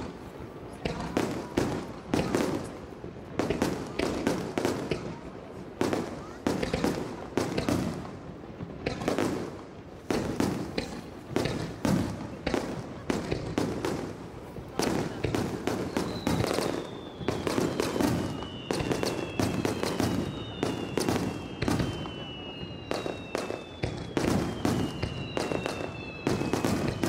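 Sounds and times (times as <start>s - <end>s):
fireworks bangs echoing: 0.0s - 27.0s.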